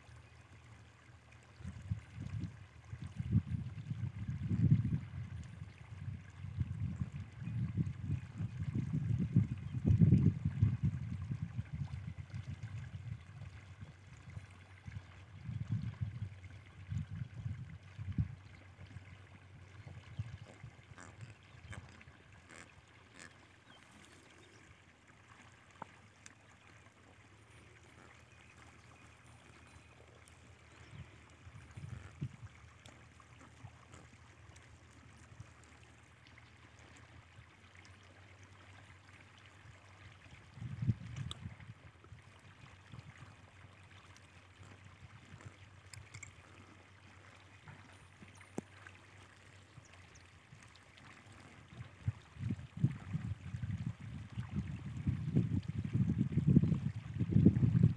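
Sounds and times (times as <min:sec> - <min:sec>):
wind rumble on microphone: 0:01.4 - 0:24.7, 0:27.5 - 0:57.9.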